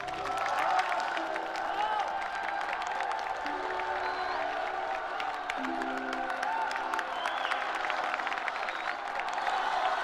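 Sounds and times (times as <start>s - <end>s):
crowd clapping and cheering: 0.0s - 10.0s.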